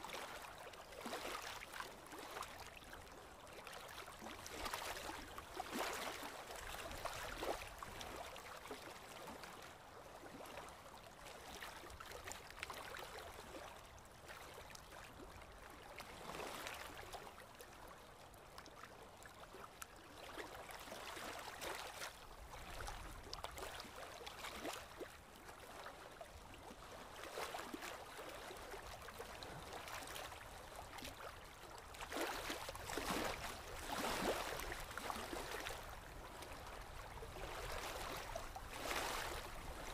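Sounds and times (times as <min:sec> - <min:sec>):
shallow stream running: 0:00.0 - 0:39.9
splashing and sloshing water: 0:00.0 - 0:39.9.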